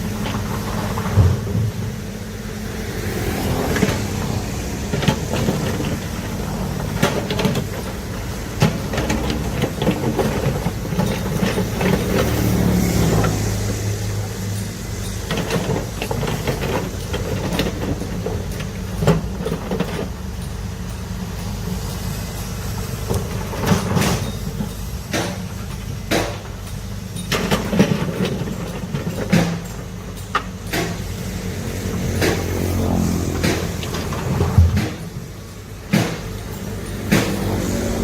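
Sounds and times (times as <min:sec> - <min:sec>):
diesel machinery rumbling: 0:00.0 - 0:38.0
sharp clanks and knocks: 0:03.7 - 0:13.6, 0:14.4 - 0:38.0.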